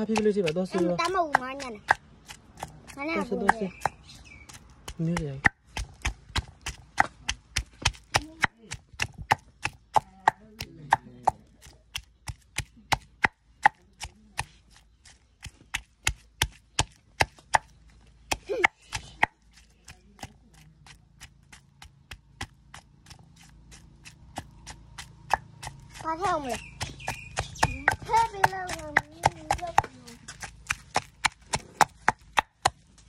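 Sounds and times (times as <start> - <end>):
pestle pounding in clay mortar: 0.0 - 33.0.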